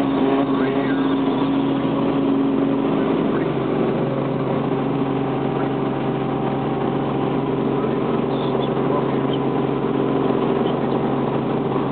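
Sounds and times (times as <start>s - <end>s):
helicopter engine and rotor drone: 0.0s - 11.9s.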